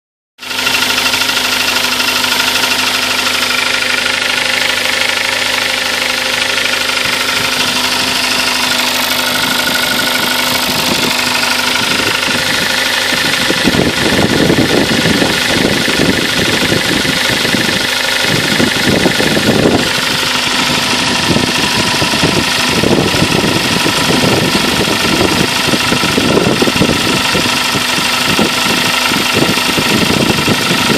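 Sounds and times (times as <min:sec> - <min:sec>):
car engine knocking: 0:00.4 - 0:30.9.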